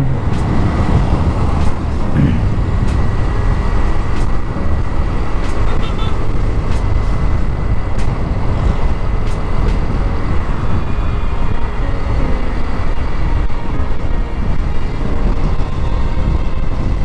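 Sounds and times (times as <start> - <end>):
road rumble: 0.0 - 17.0
wind on microphone: 0.0 - 17.0.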